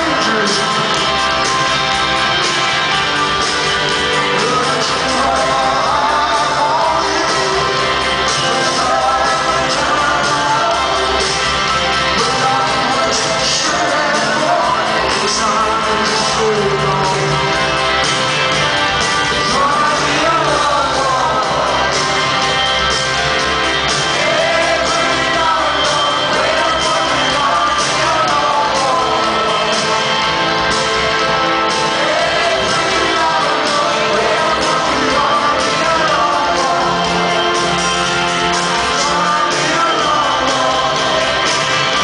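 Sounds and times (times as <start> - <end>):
live rock band playing: 0.0 - 42.0
man singing lead vocal: 0.0 - 42.0.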